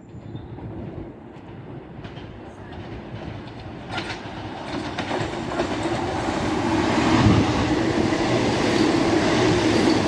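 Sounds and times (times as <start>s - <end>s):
train wheels clicking over rails: 0.1s - 10.0s
diesel train hum: 1.3s - 10.0s.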